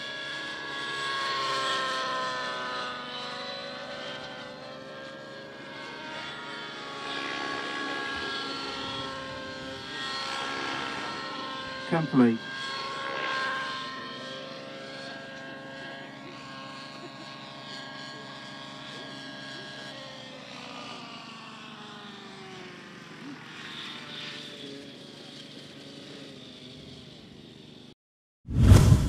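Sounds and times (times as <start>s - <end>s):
model helicopter whine: 0.0s - 28.0s.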